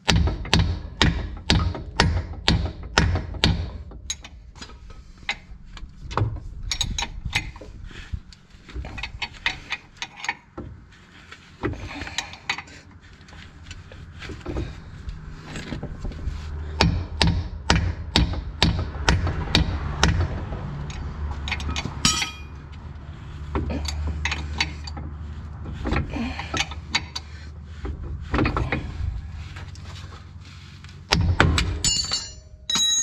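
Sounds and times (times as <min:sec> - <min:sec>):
metallic clicks and knocks: 0:00.0 - 0:07.7, 0:11.6 - 0:28.9, 0:31.1 - 0:33.0.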